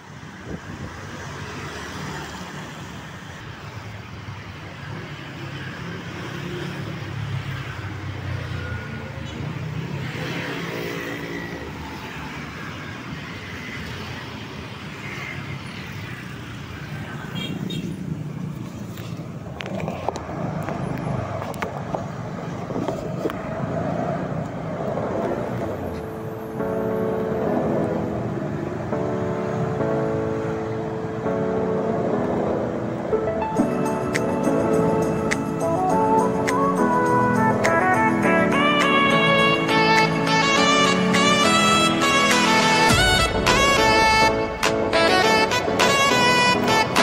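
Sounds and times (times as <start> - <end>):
motorbikes and cars passing: 0.0 - 47.0.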